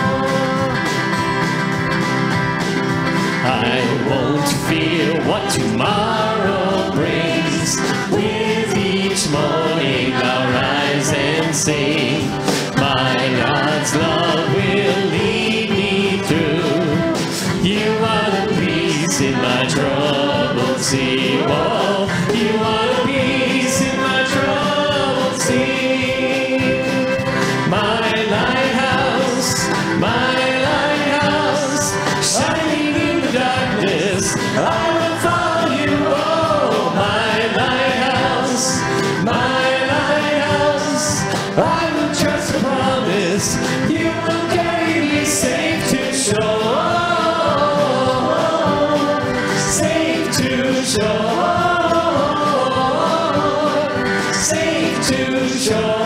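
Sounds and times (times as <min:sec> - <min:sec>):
acoustic guitar: 0:00.0 - 0:56.0
drum kit with cymbals: 0:00.0 - 0:56.0
men and women singing together: 0:00.0 - 0:56.0
piano: 0:00.0 - 0:56.0.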